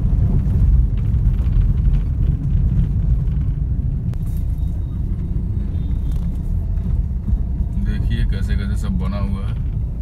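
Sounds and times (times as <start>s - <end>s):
car cabin engine and tyre rumble: 0.0s - 10.0s.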